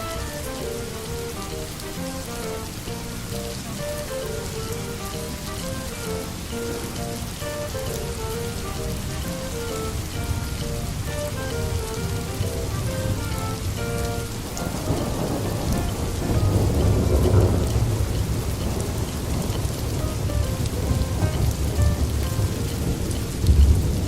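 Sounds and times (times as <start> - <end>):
steady rain: 0.0 - 24.0
thunder rolling: 0.0 - 24.0.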